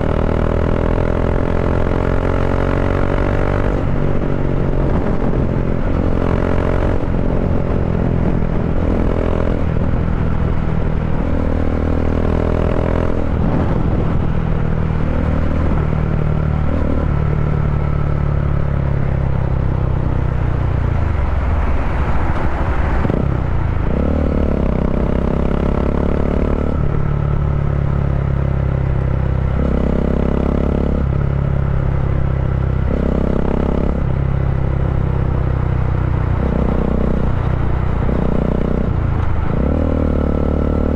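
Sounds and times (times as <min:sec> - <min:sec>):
motorcycle engine running: 0:00.0 - 0:21.3, 0:23.0 - 0:40.9.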